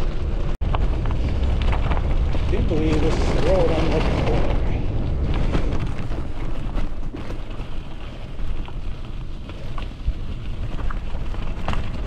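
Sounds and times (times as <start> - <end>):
bicycle tyres on gravel: 0.0 - 12.0
wind rumble on microphone: 0.0 - 12.0.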